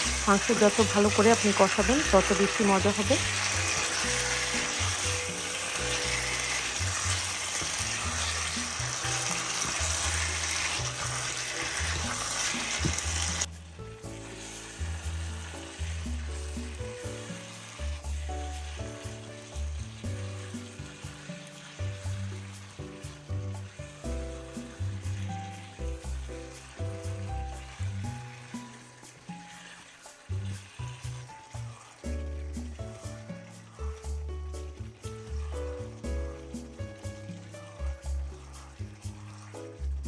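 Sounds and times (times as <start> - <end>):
chicken sizzling in hot oil: 0.0 - 40.0.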